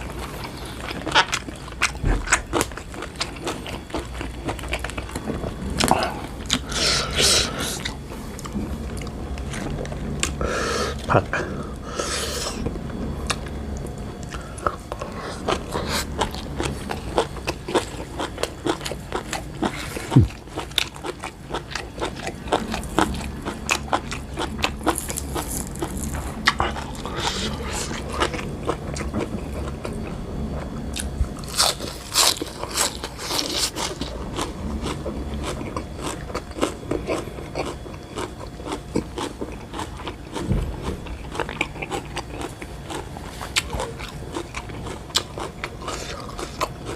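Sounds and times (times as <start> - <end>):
person chewing crunchy vegetables: 0.0 - 46.9.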